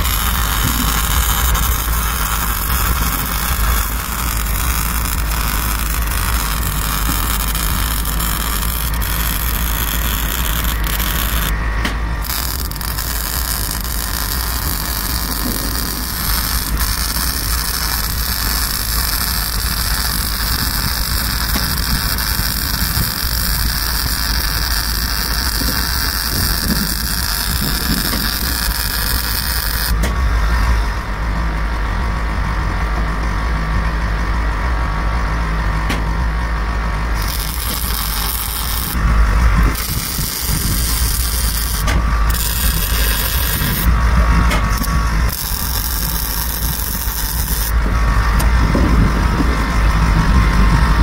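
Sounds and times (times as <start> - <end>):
welding arc hissing: 0.0 - 30.0, 37.2 - 48.6
low hum: 0.0 - 51.0.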